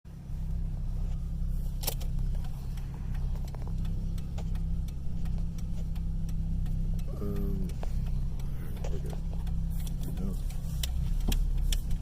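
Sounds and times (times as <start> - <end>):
car road noise rumble: 0.1 - 12.0
light clicks and rattles: 0.8 - 12.0.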